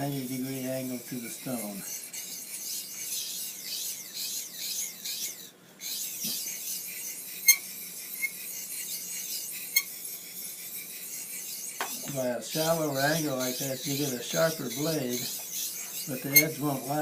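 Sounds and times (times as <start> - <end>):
knife scraping on sharpening stone: 0.9 - 17.0.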